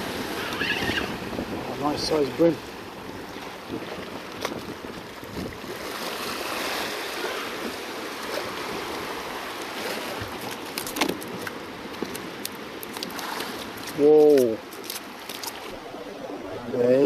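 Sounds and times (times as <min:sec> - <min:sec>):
waves washing against rocks: 0:00.0 - 0:17.0.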